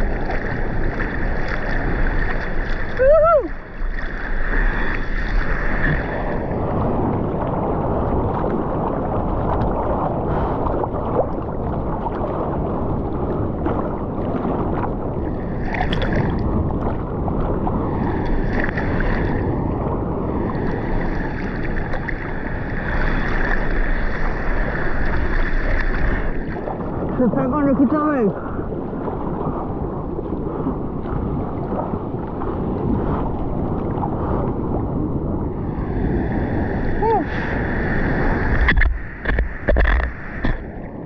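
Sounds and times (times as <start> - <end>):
sea water sloshing and splashing: 0.0 - 41.0
wind on microphone: 0.0 - 41.0.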